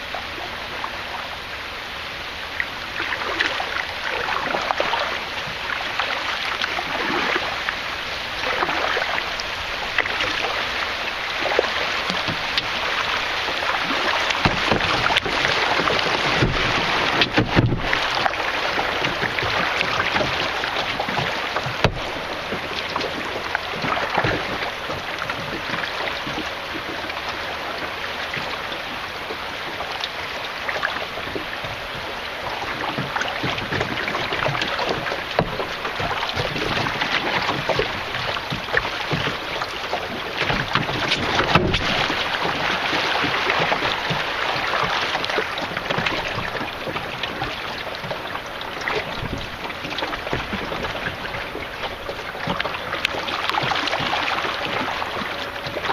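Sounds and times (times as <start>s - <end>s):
river water rushing and splashing: 0.0s - 55.9s.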